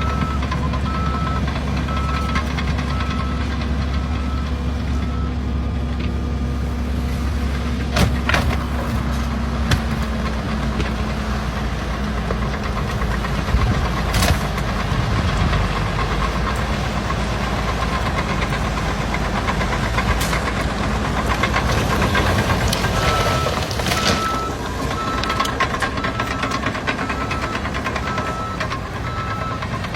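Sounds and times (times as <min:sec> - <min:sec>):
engine humming: 0:00.0 - 0:29.9.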